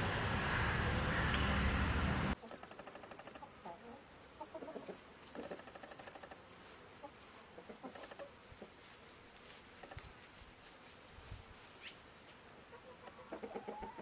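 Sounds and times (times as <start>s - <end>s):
faint hiss: 0.8s - 13.5s.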